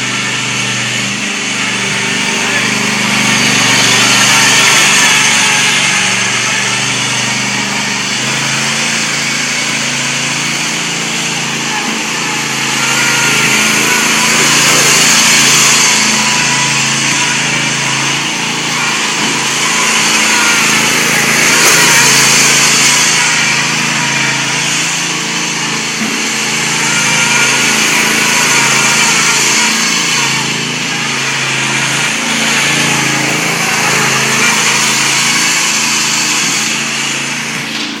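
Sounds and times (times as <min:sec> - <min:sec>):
lawn mower engine running: 0:00.0 - 0:38.0.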